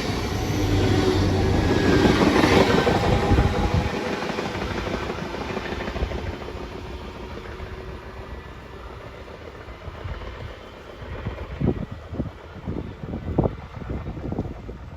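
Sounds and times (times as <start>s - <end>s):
electric train rumbling: 0.0s - 14.9s.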